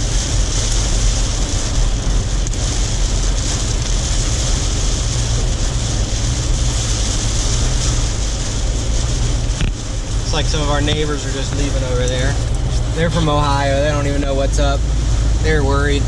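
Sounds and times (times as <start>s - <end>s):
vehicle driving: 0.0s - 16.0s.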